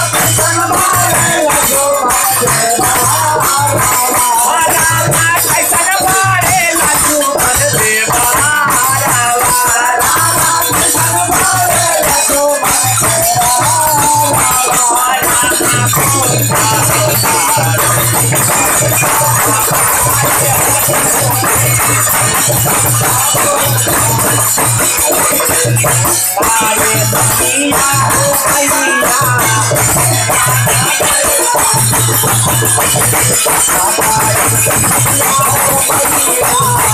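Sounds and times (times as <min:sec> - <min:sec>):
fast rattling percussion: 0:00.0 - 0:36.9
man singing into microphone: 0:00.0 - 0:36.9.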